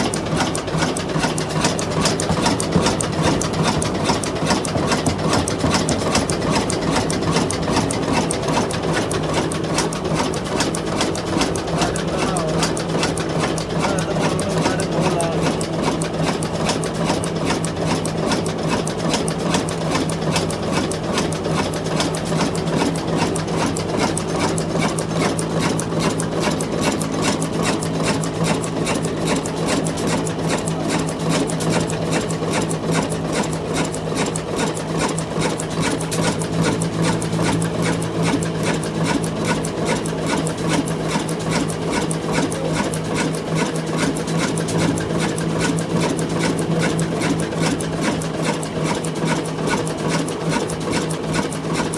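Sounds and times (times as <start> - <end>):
diesel engine knocking: 0.0 - 51.9.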